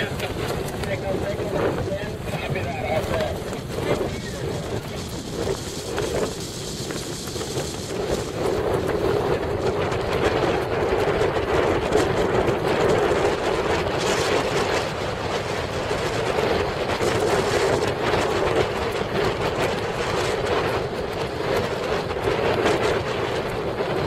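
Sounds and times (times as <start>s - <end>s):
choppy water against hull: 0.0s - 24.0s
motorboat engine humming: 0.0s - 24.0s
wind buffeting microphone: 0.0s - 24.0s.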